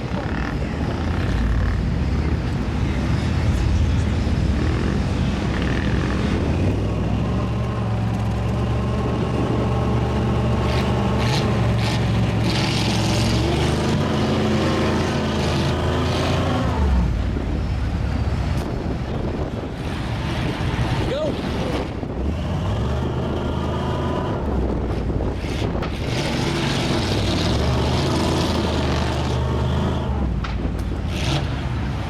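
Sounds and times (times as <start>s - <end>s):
truck engine at high revs: 0.0s - 32.0s.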